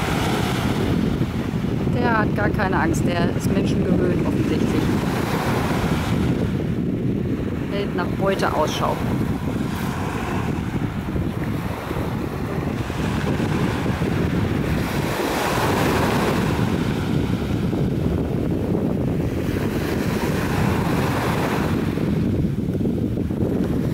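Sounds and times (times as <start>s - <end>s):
small waves breaking on sand: 0.0s - 23.9s
wind rumble on microphone: 0.0s - 23.9s.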